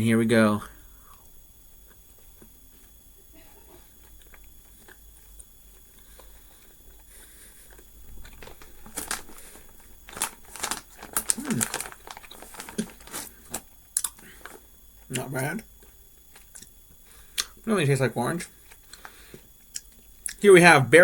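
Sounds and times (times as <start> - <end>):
person chewing gummy candy: 1.0 - 17.6, 18.6 - 20.4.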